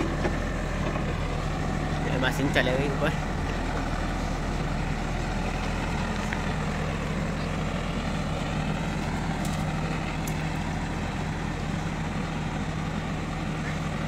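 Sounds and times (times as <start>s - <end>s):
diesel engine running at low revs: 0.0s - 14.0s
tyres on gravel: 0.0s - 14.0s.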